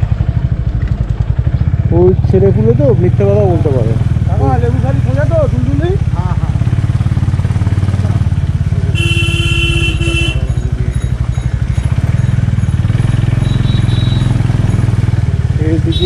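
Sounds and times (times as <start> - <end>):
motorcycle engine pulsing: 0.0 - 16.0.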